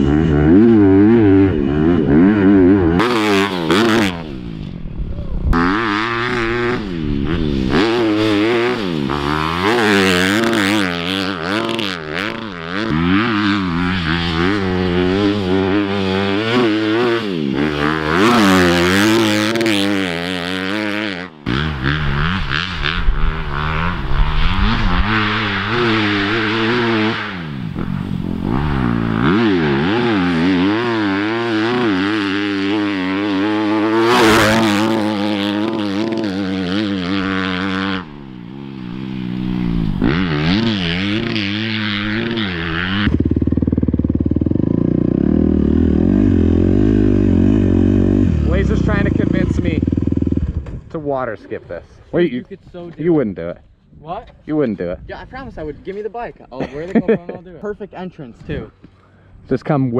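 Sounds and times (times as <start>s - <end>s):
dirt bike engine revving: 0.0s - 51.6s.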